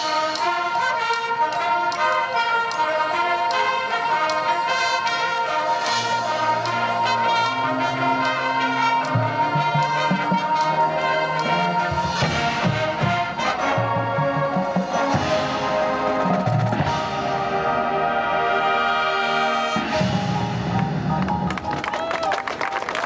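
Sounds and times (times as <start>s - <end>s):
marching band brass: 0.0s - 23.0s.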